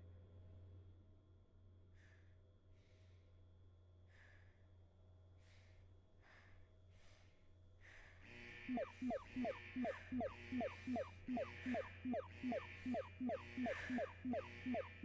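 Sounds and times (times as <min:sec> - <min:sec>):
low steady hum: 0:00.0 - 0:15.0
soft breath-like puffs: 0:01.9 - 0:15.0.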